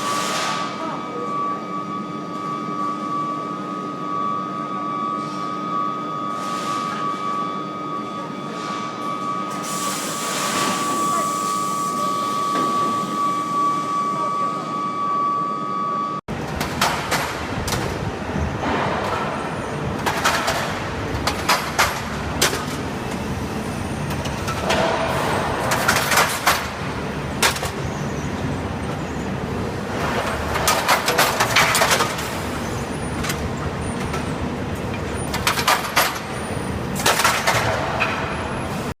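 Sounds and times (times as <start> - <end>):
furnace high whine: 0.0 - 39.0.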